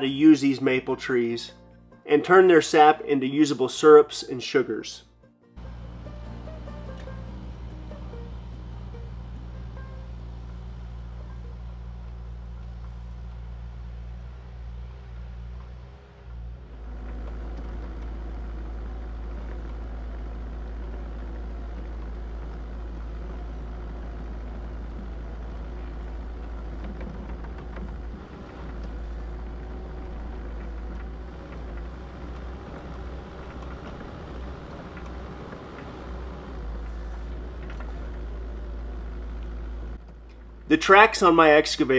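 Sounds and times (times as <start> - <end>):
diesel engine running: 5.6 - 41.9.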